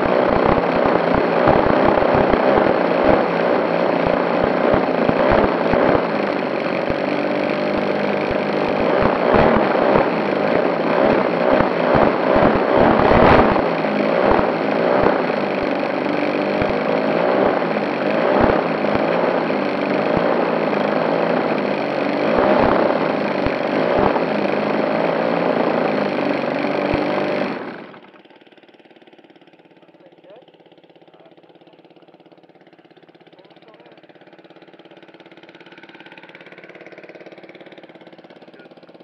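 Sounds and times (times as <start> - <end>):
model plane engine running: 0.0 - 39.0.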